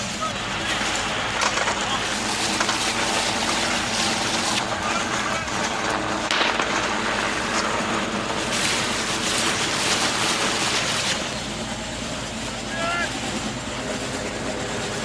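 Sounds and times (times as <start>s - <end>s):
engine drone: 0.0s - 15.0s
indistinct voices: 0.0s - 15.0s
loud rushing noise: 0.0s - 15.0s.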